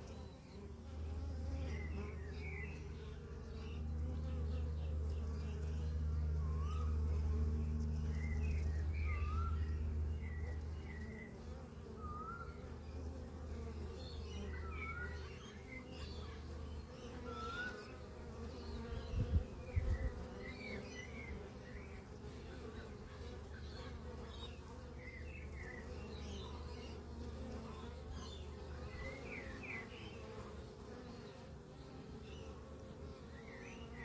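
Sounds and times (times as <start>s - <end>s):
bees buzzing in hive: 0.0s - 34.0s
small birds chirping: 0.0s - 34.0s.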